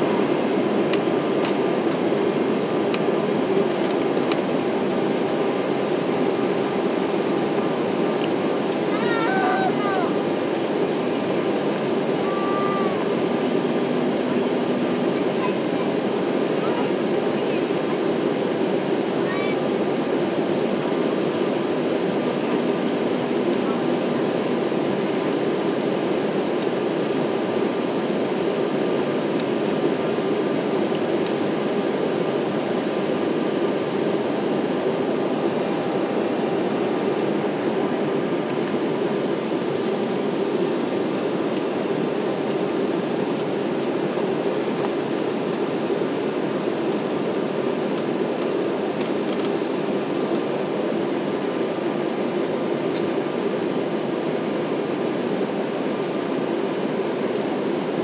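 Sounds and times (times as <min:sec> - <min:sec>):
faint steady whine: 0:00.0 - 0:58.0
jet engines and rushing air: 0:00.0 - 0:58.0.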